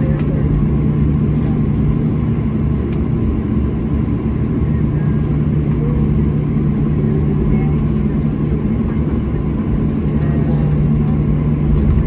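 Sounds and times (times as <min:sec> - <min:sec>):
constant cabin hum: 0:00.0 - 0:12.0.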